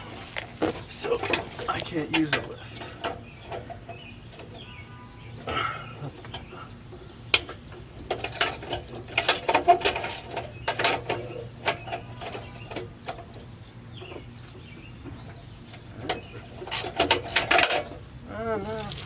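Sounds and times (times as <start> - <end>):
hand tools clinking on metal: 0.8 - 4.6, 5.3 - 13.4, 15.2 - 19.0.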